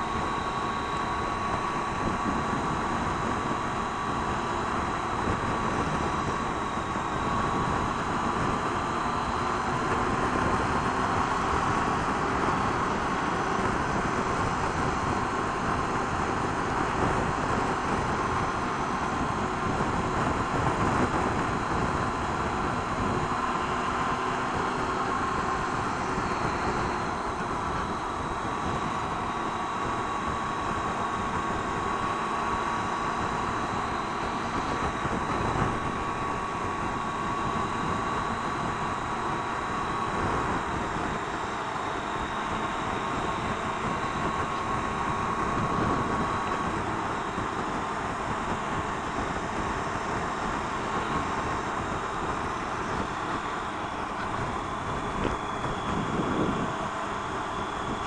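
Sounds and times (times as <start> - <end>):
motorcycle engine running: 0.0 - 58.0
wind rushing on helmet: 0.0 - 58.0.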